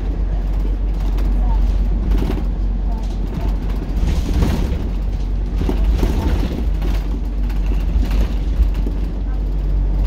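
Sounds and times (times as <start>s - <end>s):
bus engine and road rumble: 0.0s - 10.0s
rattles and knocks from bus body: 0.0s - 10.0s.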